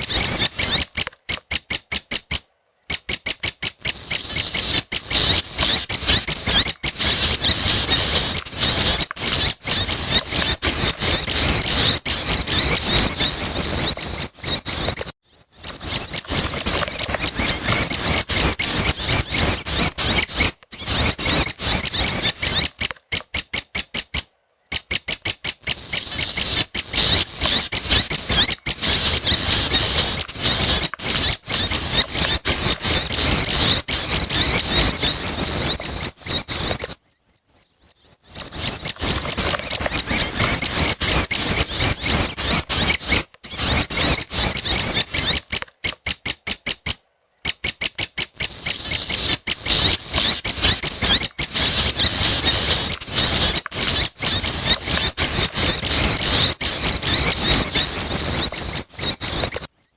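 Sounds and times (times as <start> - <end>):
bird calling high squeaky notes: 0.0 - 37.0, 37.6 - 59.7.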